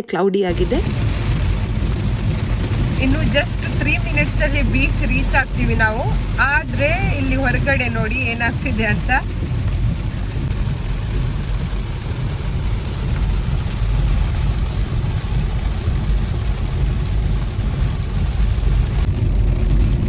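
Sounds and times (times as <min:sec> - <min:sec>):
road hiss: 0:00.5 - 0:19.2
car engine and road rumble: 0:00.5 - 0:20.0.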